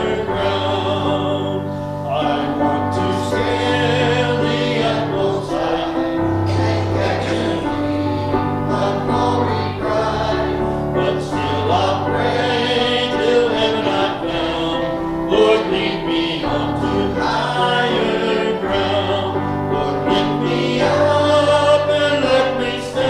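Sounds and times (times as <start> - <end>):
congregation singing a hymn: 0.0 - 23.0.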